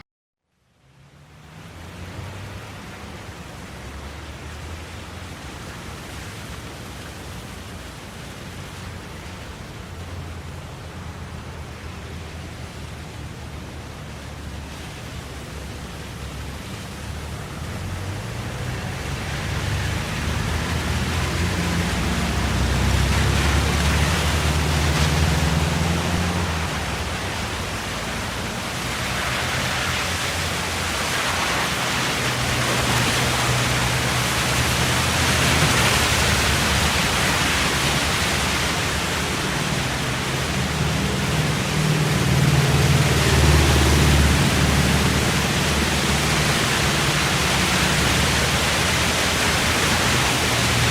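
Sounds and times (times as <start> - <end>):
low engine hum: 0.7 - 50.9
vehicles passing: 0.7 - 50.9.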